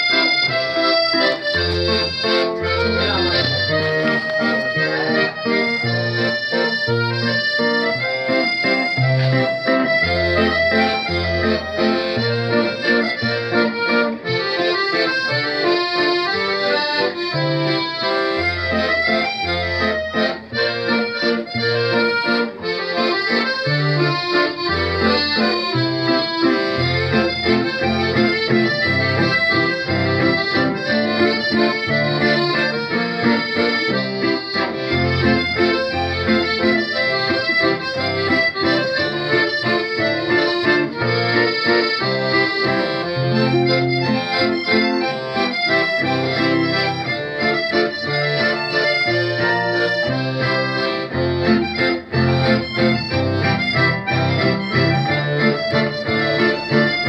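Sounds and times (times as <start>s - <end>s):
acoustic band music: 0.0s - 57.0s.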